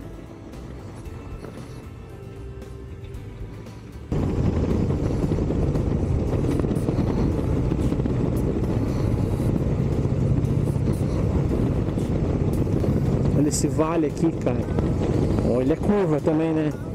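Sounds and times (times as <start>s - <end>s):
motorcycle engine running: 0.0s - 16.9s
quiet music: 0.0s - 16.9s
wind noise: 3.0s - 16.9s.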